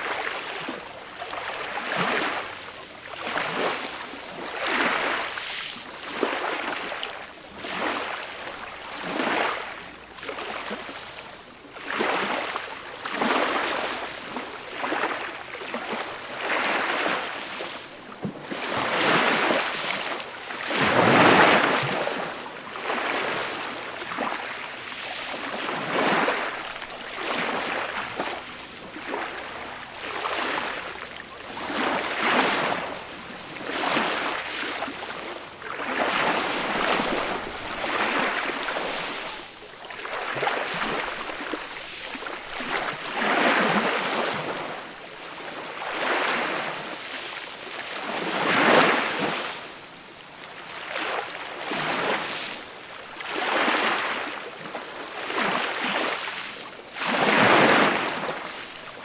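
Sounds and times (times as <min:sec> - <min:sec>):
small waves washing up beach: 0:00.0 - 0:59.0.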